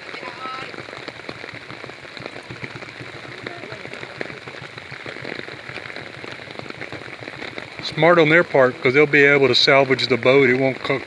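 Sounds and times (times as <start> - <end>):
raindrops ticking close: 0.0 - 11.0
steady rain falling: 0.0 - 11.0.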